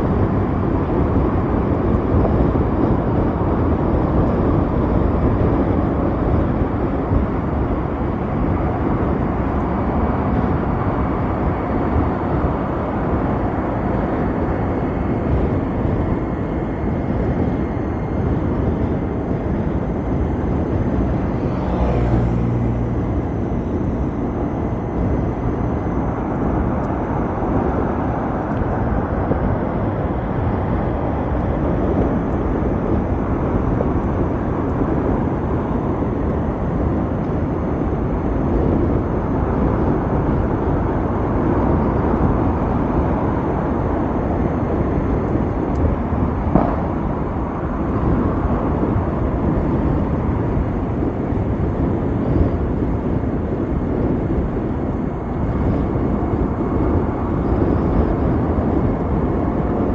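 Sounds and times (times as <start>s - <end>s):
wind rush and road noise: 0.0s - 59.9s.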